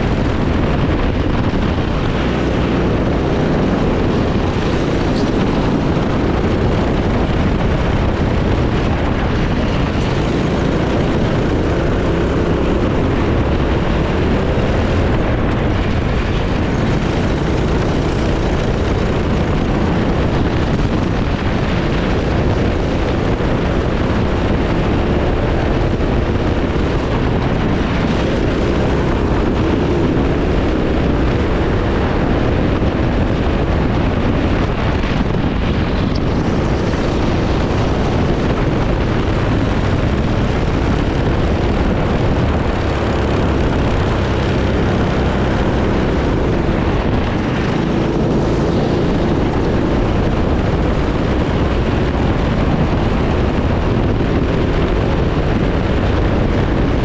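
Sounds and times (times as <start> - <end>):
racing kart engine running hard: 0.0 - 57.0.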